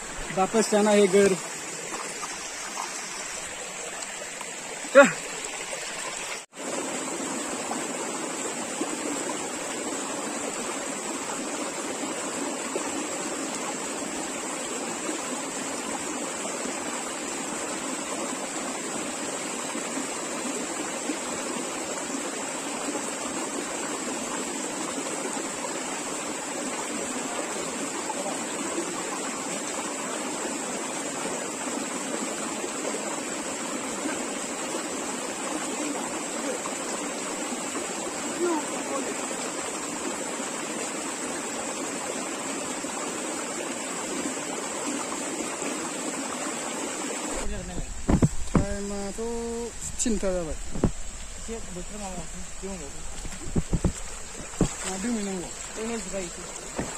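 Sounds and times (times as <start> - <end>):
water rushing over rocks: 0.0 - 56.9.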